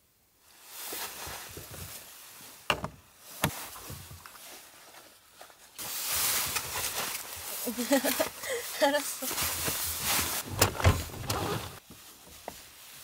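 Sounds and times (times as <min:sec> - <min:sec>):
rustling and handling noises: 0:00.4 - 0:13.0.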